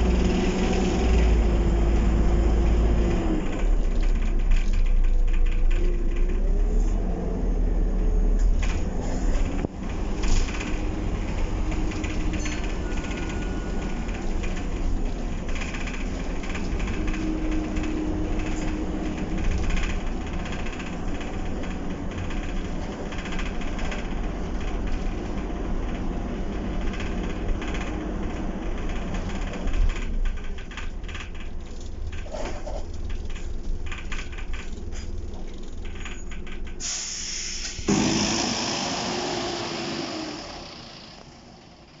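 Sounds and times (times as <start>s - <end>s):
bus engine and road noise: 0.0s - 42.0s
bus pulling away: 0.0s - 42.0s.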